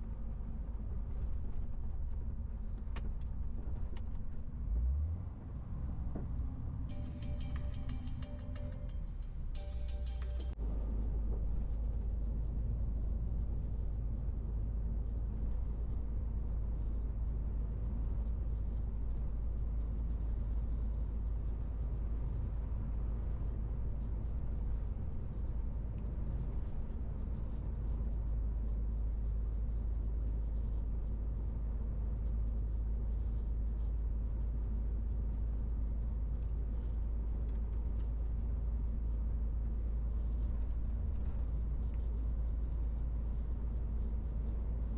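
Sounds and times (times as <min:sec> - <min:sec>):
truck engine and road noise rumble: 0:00.0 - 0:44.9.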